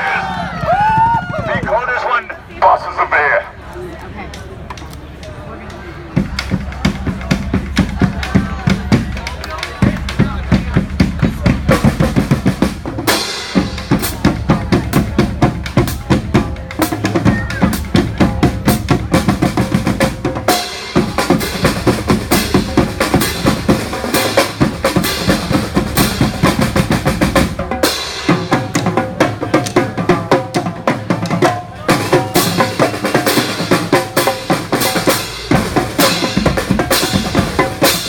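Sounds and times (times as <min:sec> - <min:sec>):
bass drum and snare beat: 0:06.2 - 0:38.0.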